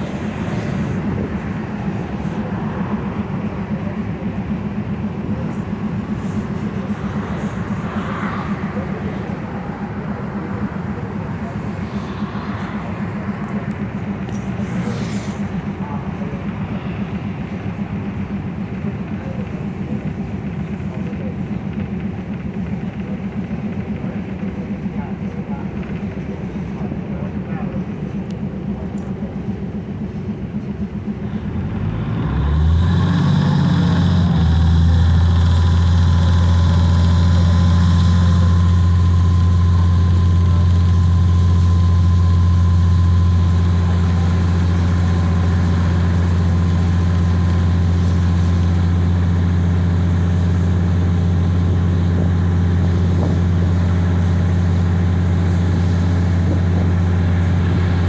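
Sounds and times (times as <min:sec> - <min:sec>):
diesel locomotive engine droning: 0:00.0 - 0:58.0.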